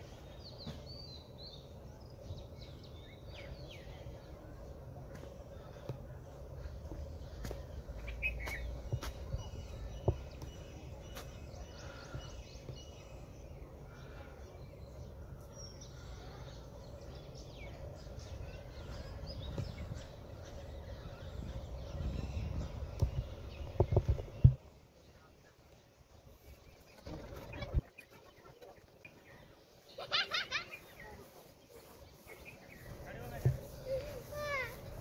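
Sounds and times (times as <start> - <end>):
faint bird chirps: 0.0 - 35.0.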